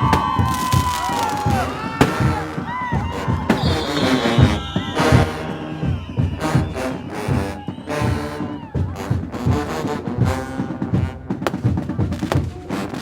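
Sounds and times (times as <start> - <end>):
brass band playing: 0.0 - 13.0
drum beat: 0.0 - 13.0.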